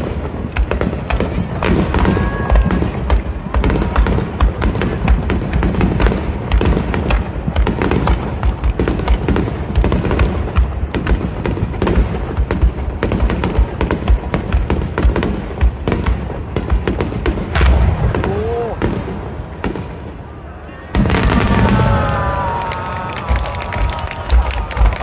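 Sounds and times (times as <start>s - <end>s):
fireworks booming and cracking: 0.0s - 25.0s.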